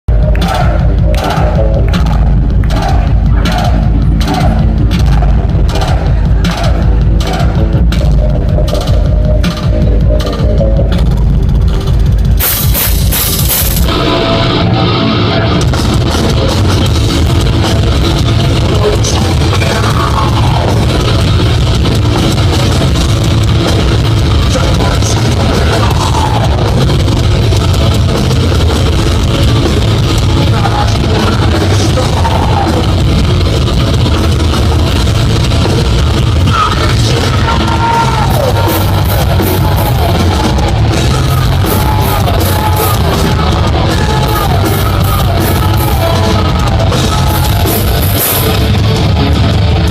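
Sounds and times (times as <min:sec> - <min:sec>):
distorted electric guitars: 0:00.0 - 0:49.9
drum kit: 0:00.1 - 0:49.9.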